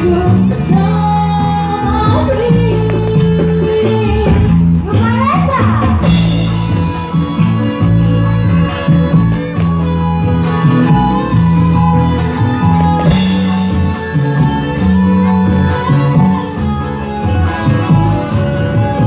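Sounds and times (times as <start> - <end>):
band playing instrumental music: 0.0 - 19.0.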